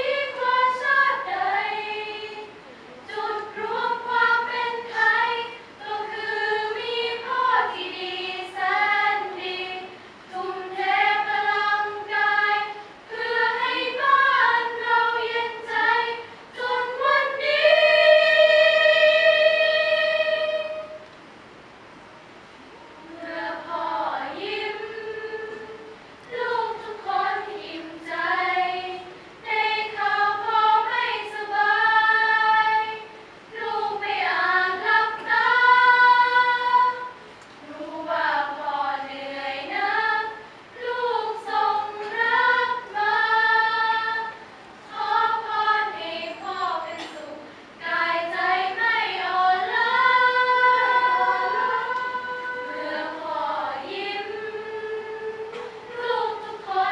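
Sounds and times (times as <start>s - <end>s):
women's choir singing: 0.0s - 21.0s, 22.9s - 56.9s.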